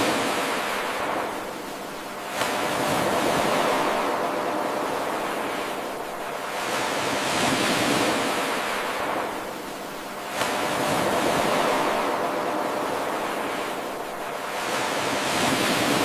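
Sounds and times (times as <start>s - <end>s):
ocean surf waves: 0.0s - 16.0s.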